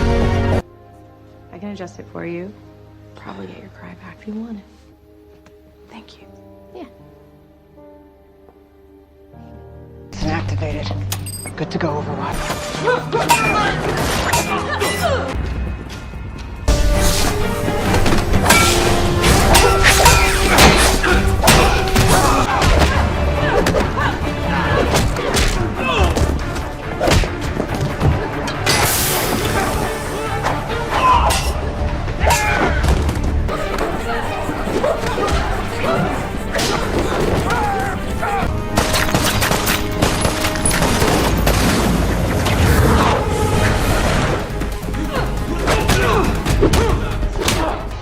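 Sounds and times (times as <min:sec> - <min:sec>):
dramatic score music: 0:00.0 - 0:48.0.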